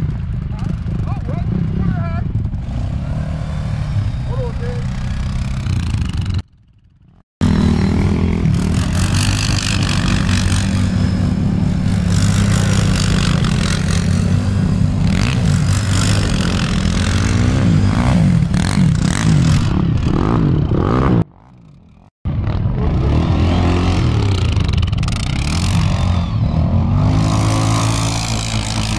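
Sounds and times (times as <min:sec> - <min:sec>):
atv engine revving: 0:00.0 - 0:28.9.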